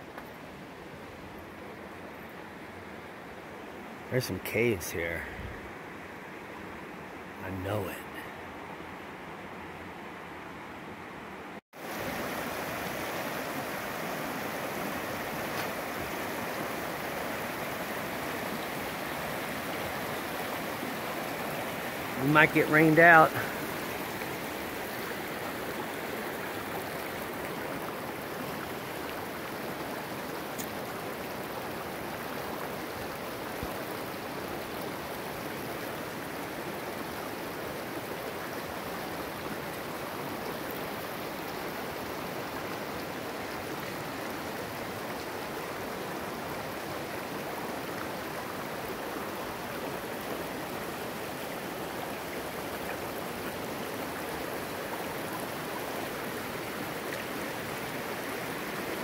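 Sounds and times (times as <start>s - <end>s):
river rushing over rocks: 11.8s - 59.0s.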